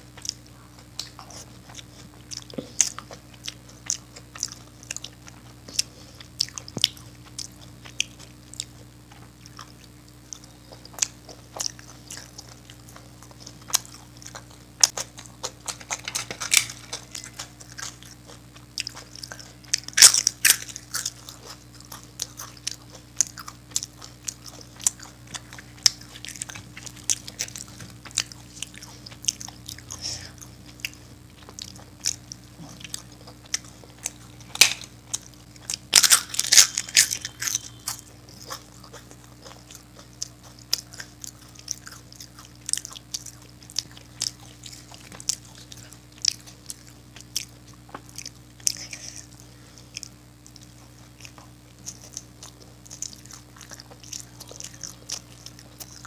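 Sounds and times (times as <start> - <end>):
person chewing crisp food: 0.0 - 56.0.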